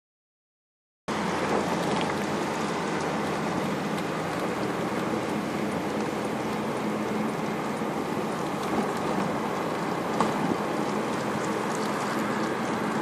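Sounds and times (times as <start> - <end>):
car road and wind noise: 1.1 - 13.0
faint low engine hum: 1.1 - 13.0.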